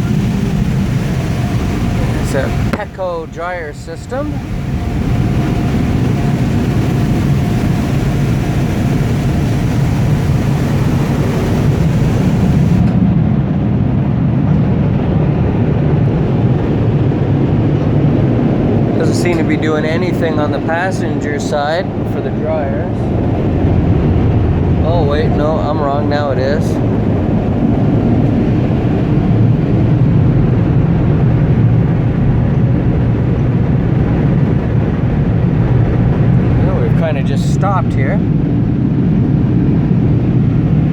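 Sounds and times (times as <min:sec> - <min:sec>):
blower dryers rushing air: 0:00.0 - 0:40.9.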